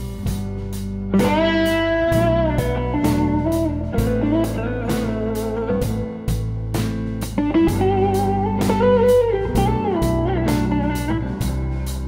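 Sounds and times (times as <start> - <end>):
blues-rock band playing: 0.0 - 12.0
gliding electric guitar notes: 0.0 - 12.0.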